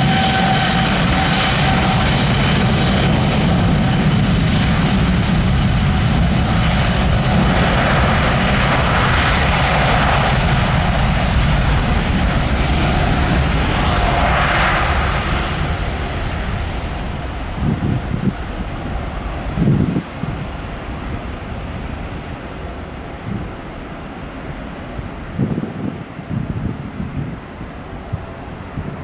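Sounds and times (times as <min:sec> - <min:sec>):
jet engines rumbling with hiss: 0:00.0 - 0:29.0.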